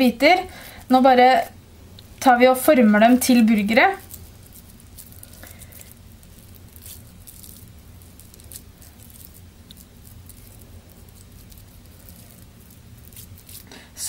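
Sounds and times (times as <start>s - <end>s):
steady low hum: 0.0s - 14.0s
hands shaping wet minced meat: 0.5s - 14.0s.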